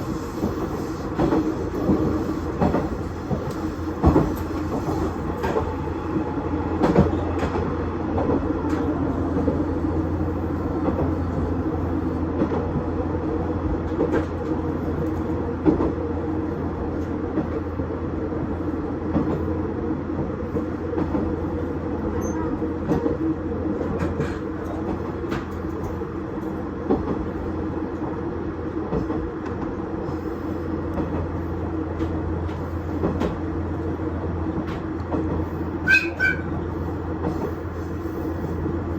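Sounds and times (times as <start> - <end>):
diesel railcar engine drone: 0.0 - 38.9.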